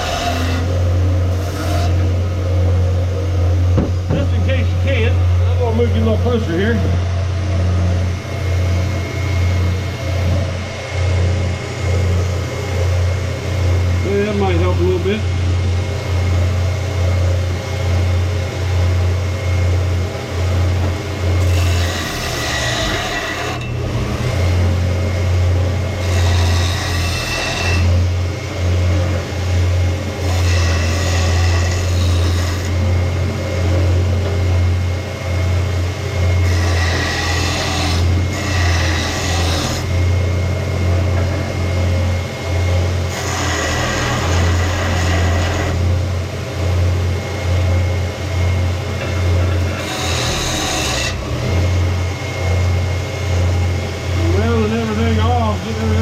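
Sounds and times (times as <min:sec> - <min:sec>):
electric motor humming: 0:00.0 - 0:56.0.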